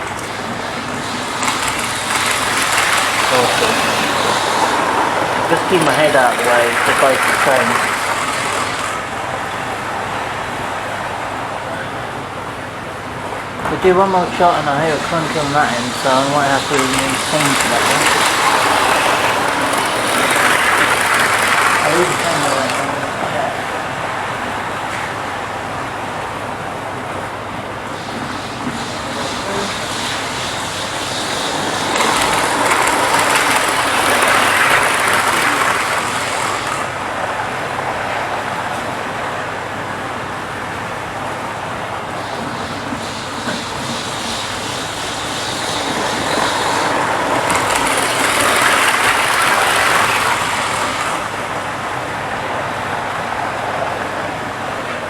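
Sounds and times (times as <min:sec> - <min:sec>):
model trains running on track: 0:00.0 - 0:55.0.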